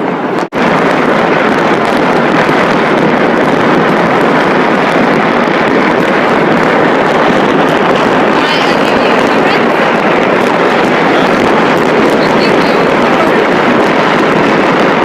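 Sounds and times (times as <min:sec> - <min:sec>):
fireworks and firecrackers exploding: 0:00.0 - 0:15.0.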